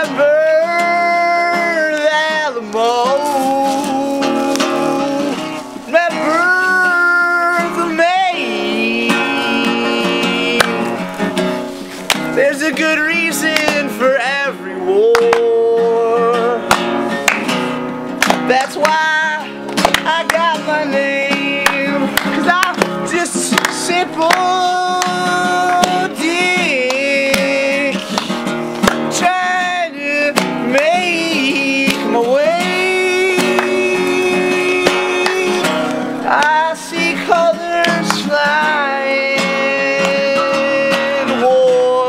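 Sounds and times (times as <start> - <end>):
man singing: 0.0 - 17.2, 18.4 - 42.0
strummed acoustic guitar: 0.0 - 42.0.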